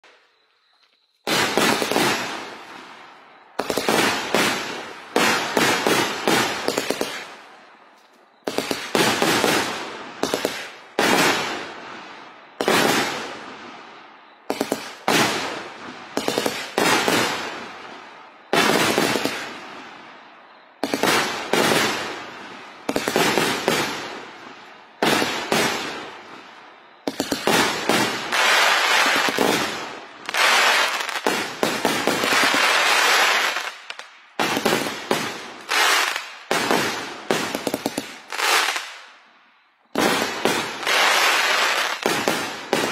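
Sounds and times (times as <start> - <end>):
fireworks bangs: 1.2 - 7.6, 8.4 - 13.8, 14.4 - 19.9, 20.8 - 39.0, 39.9 - 42.9.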